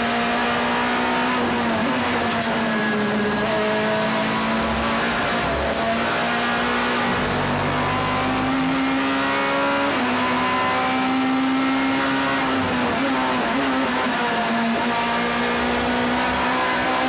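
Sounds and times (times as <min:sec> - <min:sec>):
car engine under throttle: 0:00.0 - 0:17.0.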